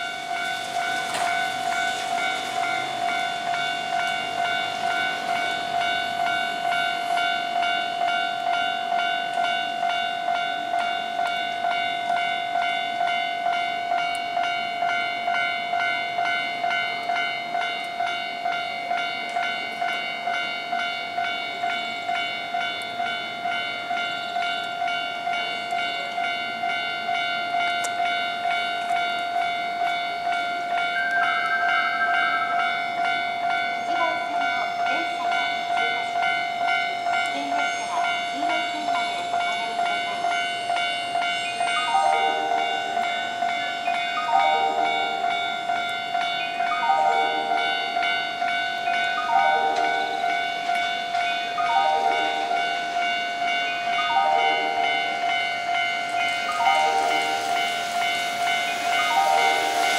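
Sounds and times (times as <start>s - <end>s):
level-crossing warning bell: 0.0s - 59.9s.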